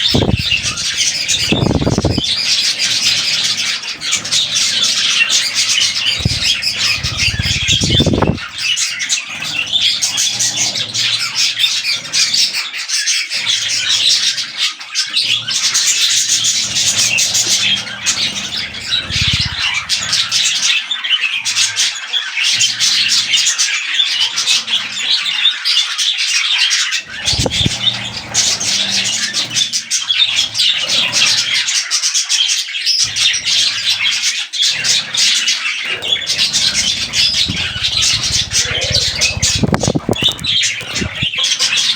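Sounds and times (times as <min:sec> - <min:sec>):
budgerigars chattering and squawking: 0:00.0 - 0:41.9.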